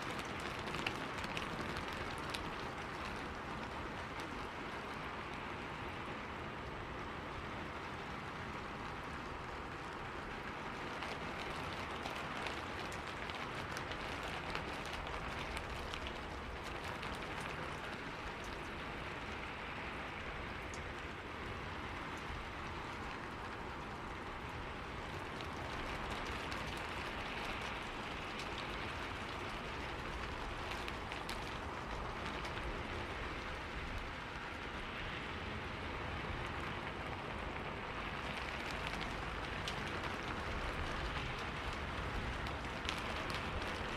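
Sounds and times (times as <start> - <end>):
steady rainfall hiss: 0.0 - 43.9.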